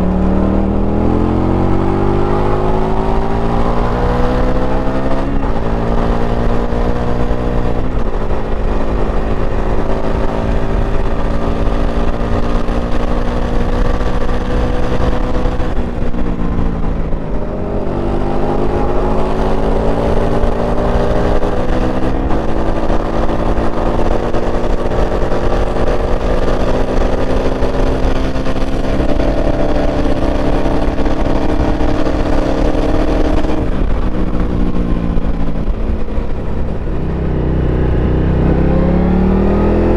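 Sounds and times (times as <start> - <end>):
low wind rumble: 0.0 - 39.9
motorcycle engine accelerating: 0.0 - 39.9.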